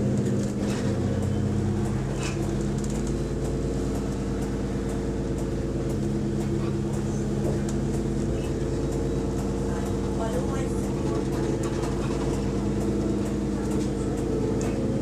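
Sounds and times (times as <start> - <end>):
bus diesel engine idling: 0.0 - 15.0.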